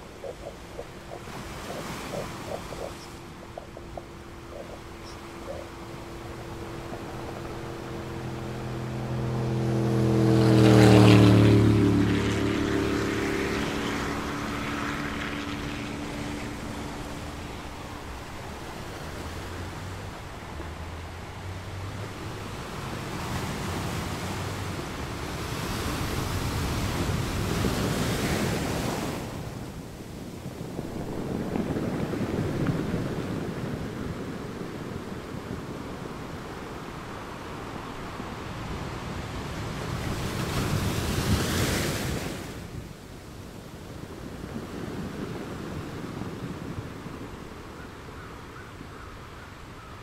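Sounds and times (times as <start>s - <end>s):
ocean waves washing: 0.0s - 50.0s.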